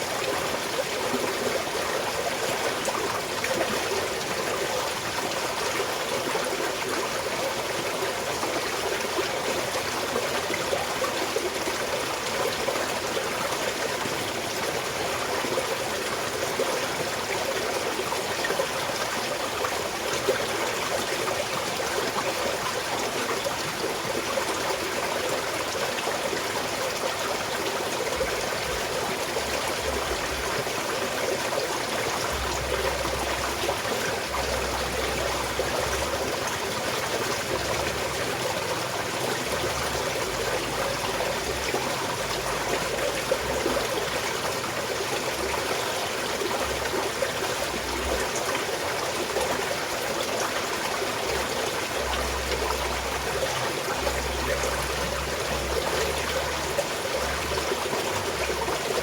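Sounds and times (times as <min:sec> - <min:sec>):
mountain stream trickling over stones: 0:00.0 - 0:59.0.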